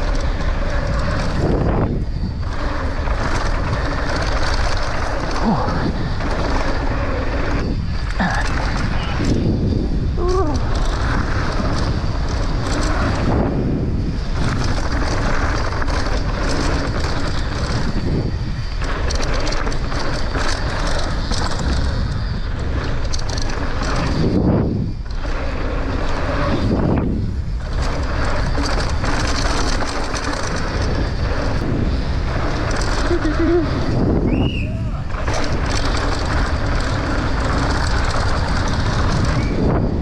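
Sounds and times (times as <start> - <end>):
bike rattling over rough ground: 0.0 - 40.0
tyre roar on dirt: 0.0 - 40.0
wind rush over microphone: 0.0 - 40.0.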